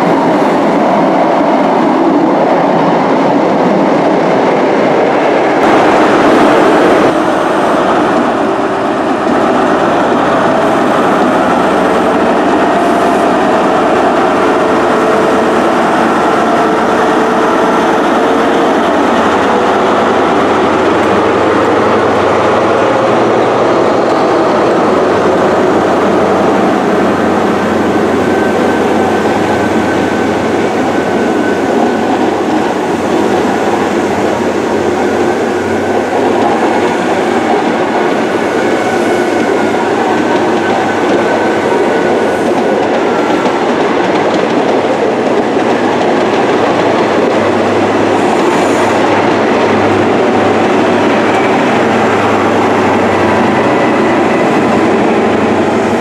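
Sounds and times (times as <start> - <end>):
train wheels rumbling on rails: 0.0 - 56.0
wheels clickety-clack: 8.0 - 56.0.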